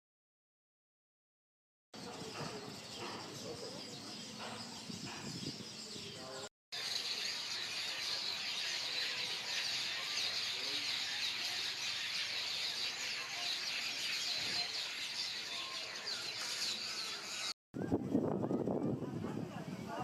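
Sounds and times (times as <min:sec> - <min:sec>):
flock of birds chirping: 0:02.0 - 0:20.0.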